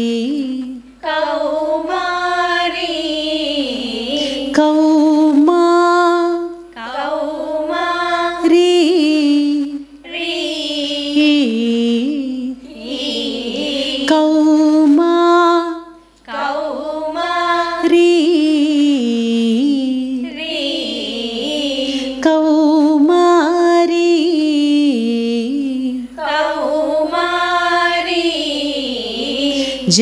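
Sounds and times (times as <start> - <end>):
women singing devotional song: 0.0 - 30.0.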